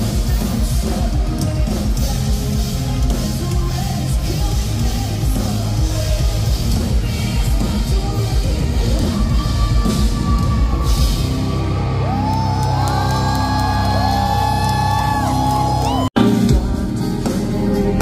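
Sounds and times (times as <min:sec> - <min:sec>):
live metal band playing: 0:00.0 - 0:18.0.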